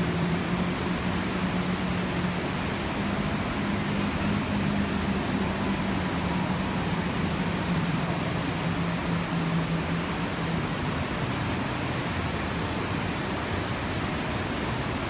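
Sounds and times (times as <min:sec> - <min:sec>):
waterfall roar: 0:00.0 - 0:15.0.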